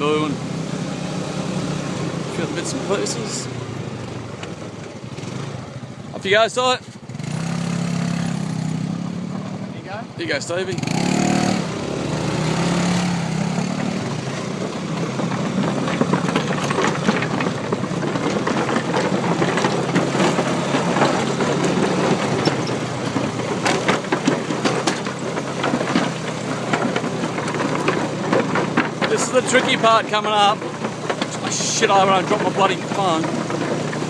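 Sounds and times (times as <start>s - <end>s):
small motorbike engine: 0.0s - 34.0s
wheels rattling over bamboo bridge: 0.0s - 34.0s.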